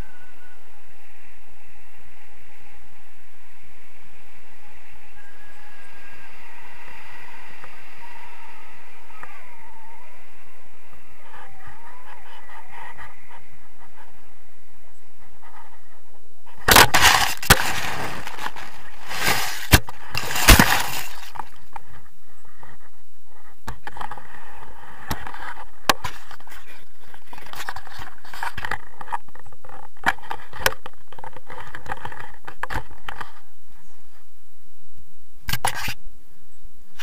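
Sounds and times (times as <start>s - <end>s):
wind rushing over camera: 0.0s - 37.0s.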